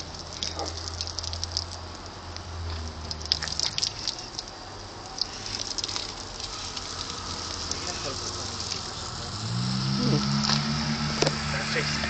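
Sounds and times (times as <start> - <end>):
sharp clicks and splashes: 0.0 - 9.5, 10.2 - 12.0
sprinkler spray pattering on grass: 0.0 - 12.0.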